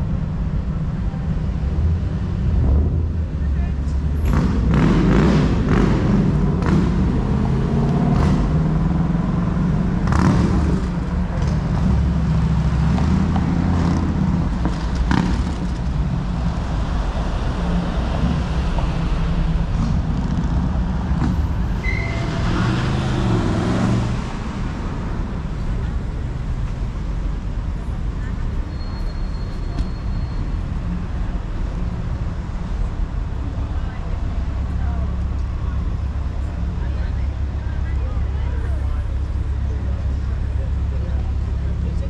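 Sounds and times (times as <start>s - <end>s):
car engines passing: 0.0s - 42.0s.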